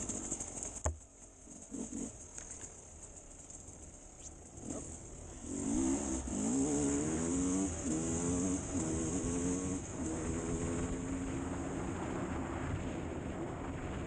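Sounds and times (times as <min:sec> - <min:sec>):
motorcycle engine revving: 0:00.0 - 0:13.1.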